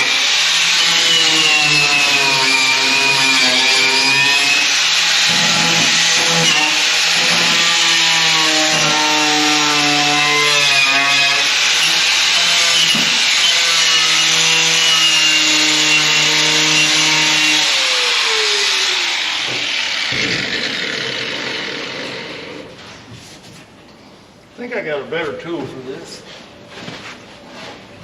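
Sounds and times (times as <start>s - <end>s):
power grinder on sheet metal: 0.0s - 22.8s.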